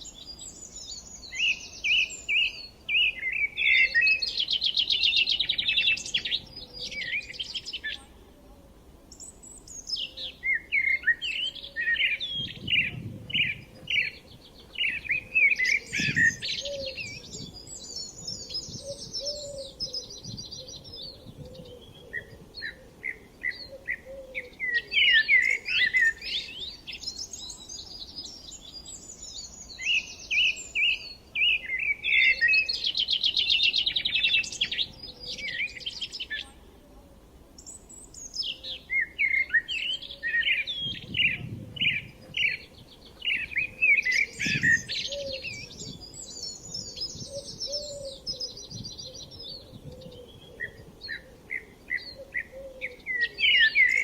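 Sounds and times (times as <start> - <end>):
songbirds chirping and warbling: 0.0 - 54.0.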